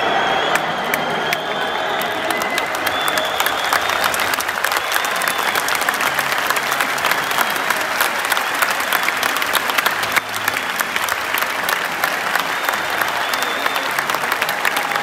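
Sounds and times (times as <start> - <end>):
crowd clapping: 0.0 - 15.0.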